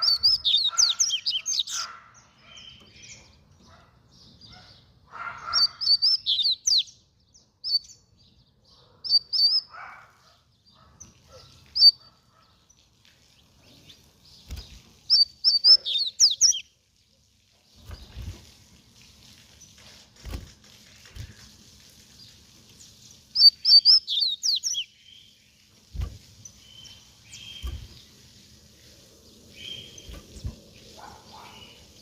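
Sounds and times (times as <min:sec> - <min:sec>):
bird chirping rapidly: 0:00.0 - 0:16.8, 0:21.1 - 0:32.0.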